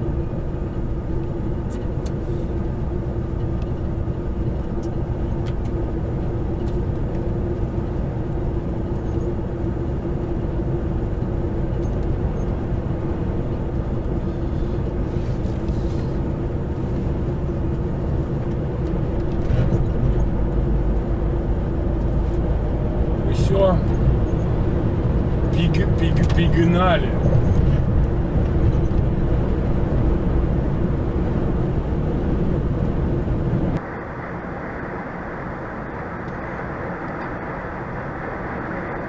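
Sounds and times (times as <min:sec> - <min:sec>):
truck engine hum: 0:00.0 - 0:33.8
road rumble: 0:00.0 - 0:39.0.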